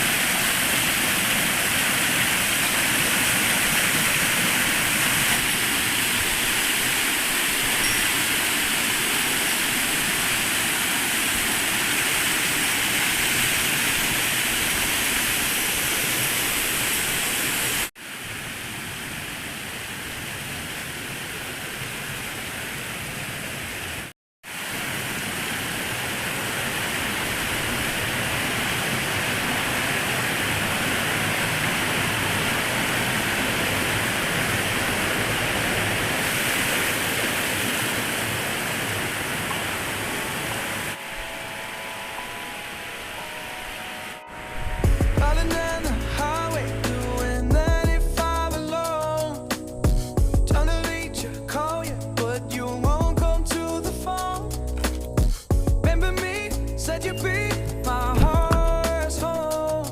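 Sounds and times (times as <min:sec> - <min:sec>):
waterfall rushing: 0:00.0 - 0:50.0, 0:56.2 - 0:59.9.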